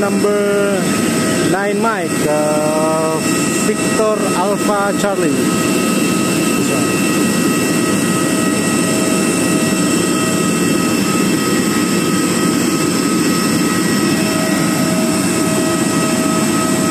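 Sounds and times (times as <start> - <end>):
jet engine whine: 0.0 - 16.9
jet engines running: 0.0 - 16.9.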